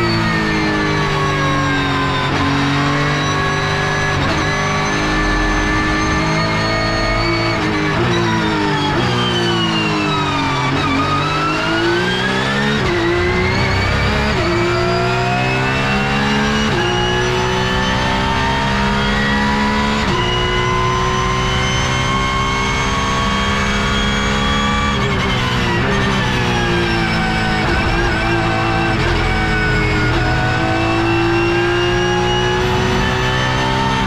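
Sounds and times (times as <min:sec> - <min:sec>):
race car engine revving: 0:00.0 - 0:34.0.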